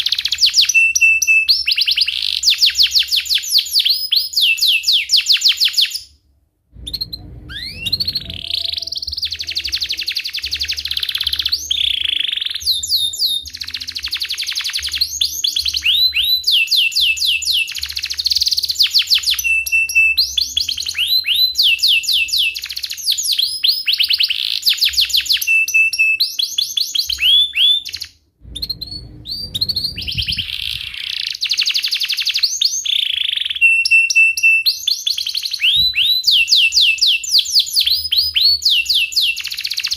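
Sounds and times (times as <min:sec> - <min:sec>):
canary singing trills: 0:06.8 - 0:39.9.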